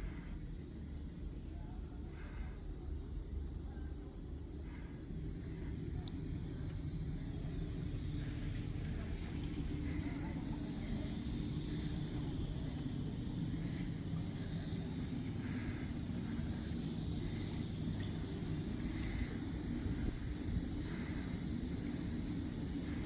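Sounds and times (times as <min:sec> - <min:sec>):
continuous low rumble: 0:00.0 - 0:23.0
high hiss: 0:00.0 - 0:23.0.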